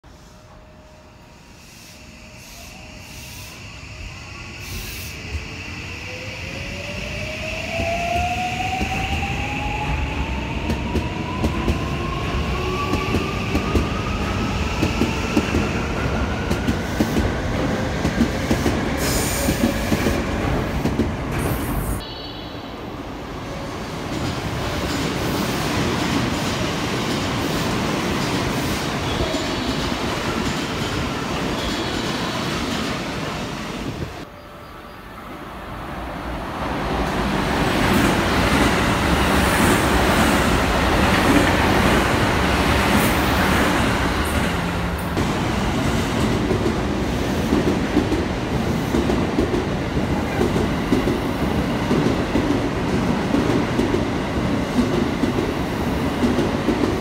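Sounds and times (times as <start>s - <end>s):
train passing close by: 0.0s - 57.0s.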